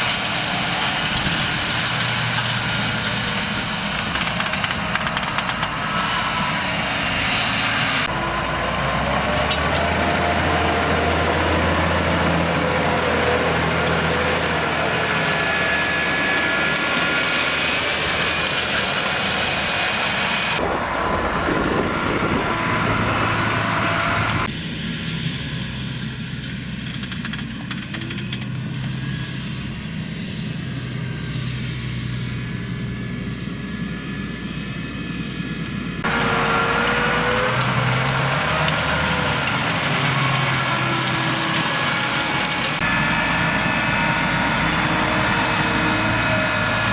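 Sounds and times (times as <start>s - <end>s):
tractor engines running: 0.0s - 46.9s.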